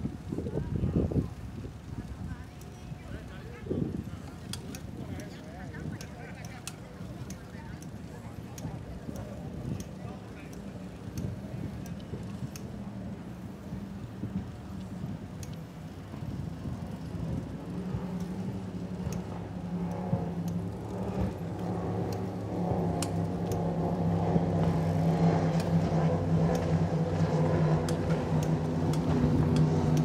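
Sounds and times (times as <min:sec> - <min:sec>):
engine humming: 0:00.0 - 0:30.0
faint clicks: 0:04.1 - 0:12.9, 0:13.7 - 0:16.0, 0:16.9 - 0:30.0.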